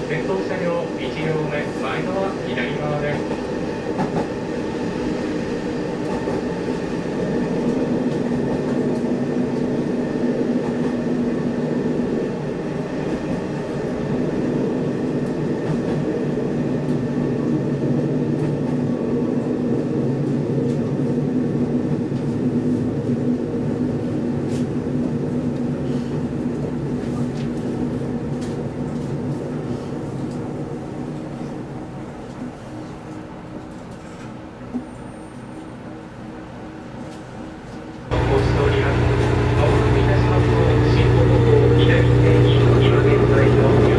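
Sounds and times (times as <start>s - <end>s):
rail and wheel noise: 0.0s - 43.9s
railcar engine hum: 0.0s - 43.9s.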